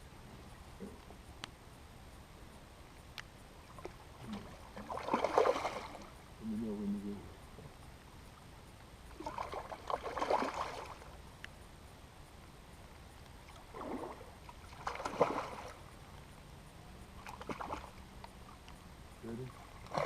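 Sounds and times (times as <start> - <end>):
water splashing and sloshing: 0.0 - 6.4, 7.4 - 20.0
river current: 0.0 - 6.5, 7.2 - 20.0.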